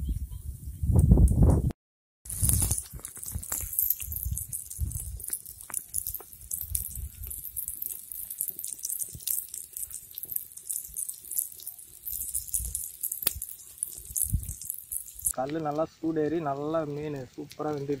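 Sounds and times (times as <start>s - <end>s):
fish sizzling in oil: 2.3s - 18.0s
wood fire crackling: 2.3s - 18.0s.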